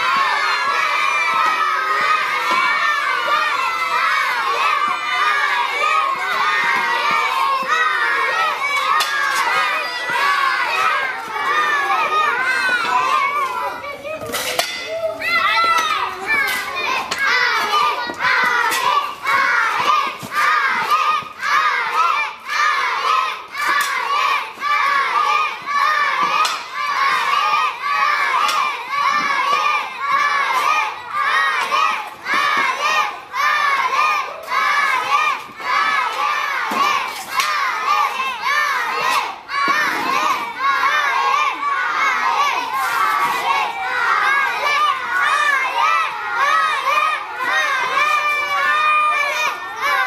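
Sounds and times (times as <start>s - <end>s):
children shouting and cheering: 0.0s - 50.0s.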